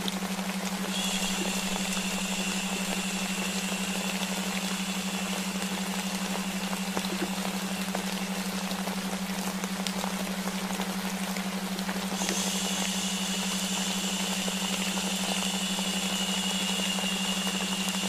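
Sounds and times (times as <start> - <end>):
continuous low hum tone: 0.0 - 18.0
rain hiss: 0.0 - 18.0.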